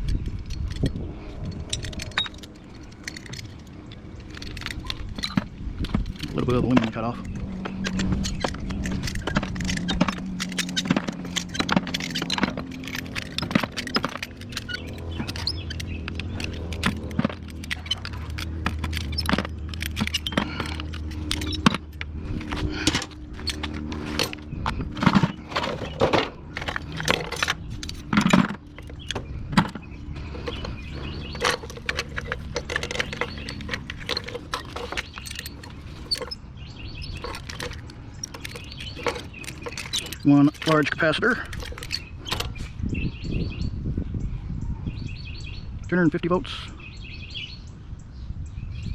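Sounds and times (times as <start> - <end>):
metal scrap parts clinking: 0.4 - 36.4, 37.0 - 42.6.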